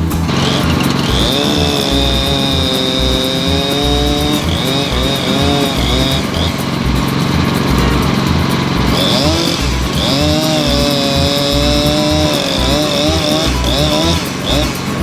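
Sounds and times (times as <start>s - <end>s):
sawmill cutting a log: 0.0s - 15.0s.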